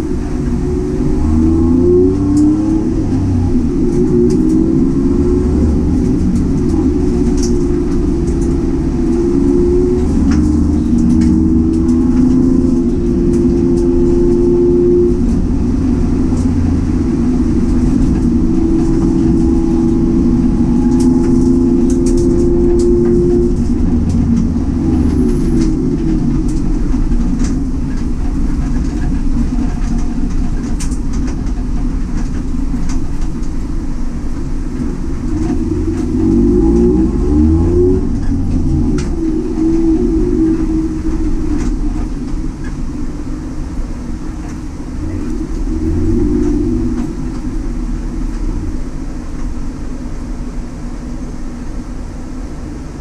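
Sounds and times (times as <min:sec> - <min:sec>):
car engine from inside cabin: 0:00.0 - 0:53.0.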